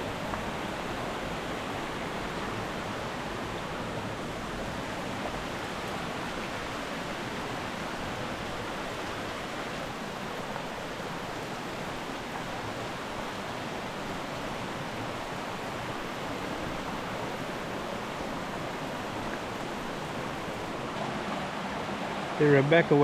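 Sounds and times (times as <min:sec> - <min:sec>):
waterfall and creek rushing: 0:00.0 - 0:23.0.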